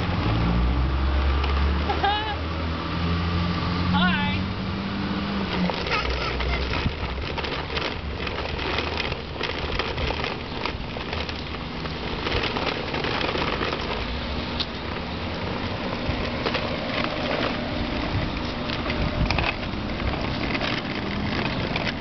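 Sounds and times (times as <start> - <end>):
plastic wheels rolling on asphalt: 0.0 - 22.0.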